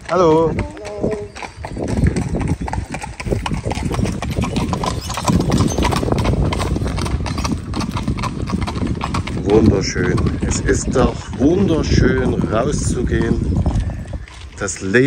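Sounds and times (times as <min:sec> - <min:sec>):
hooves clip-clopping on gravel: 0:00.0 - 0:15.0.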